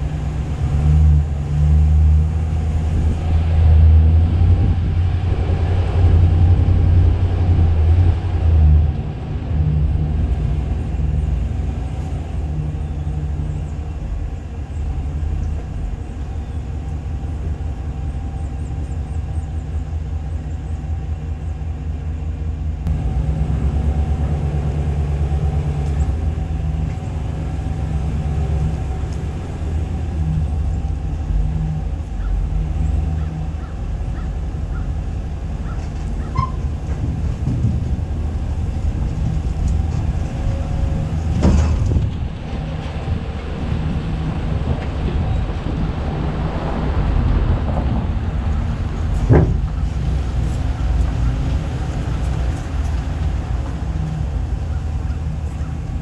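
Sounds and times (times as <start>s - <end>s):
pickup truck engine and tyres rumbling: 0.0s - 56.0s.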